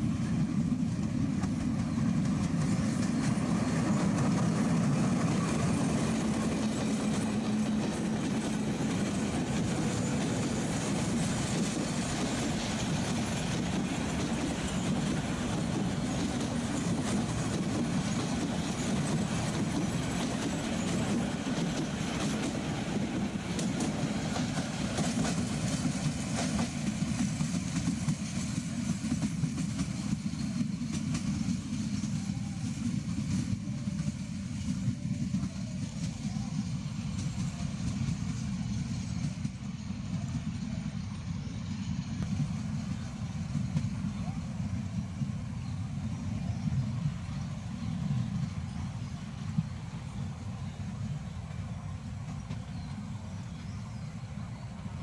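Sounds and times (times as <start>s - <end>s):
low train rumble: 0.0s - 55.0s
train wheels clattering over joints: 0.6s - 50.5s.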